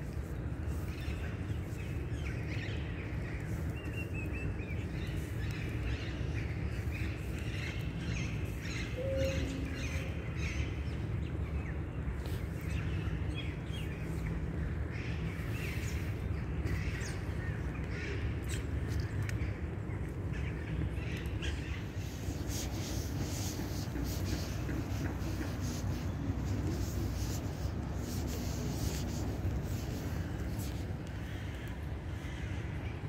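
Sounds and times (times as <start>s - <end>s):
small birds chirping: 0.0s - 32.6s
steady low rumble: 0.0s - 33.0s.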